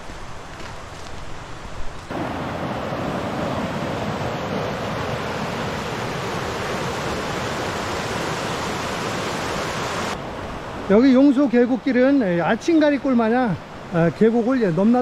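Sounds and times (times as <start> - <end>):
stream rushing over rocks: 0.1 - 15.0.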